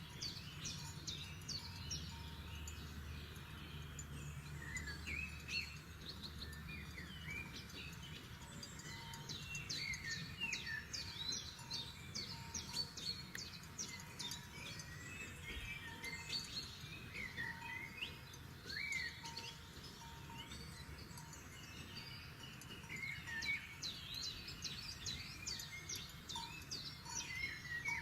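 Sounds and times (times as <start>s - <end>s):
songbirds chirping and whistling: 0.0s - 28.0s.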